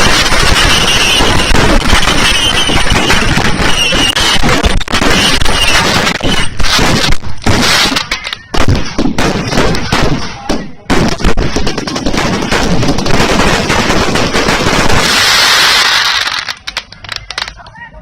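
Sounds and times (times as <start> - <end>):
fireworks bangs and crackles: 0.0 - 17.8.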